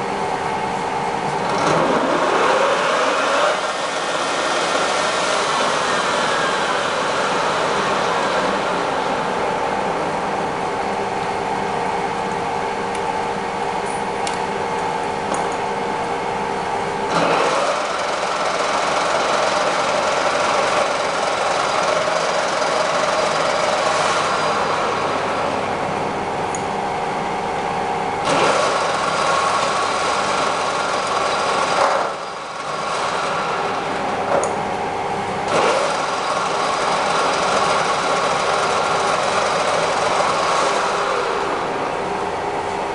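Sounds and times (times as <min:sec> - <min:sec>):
lathe whining: 0:01.2 - 0:13.7, 0:17.0 - 0:26.4, 0:28.2 - 0:42.9.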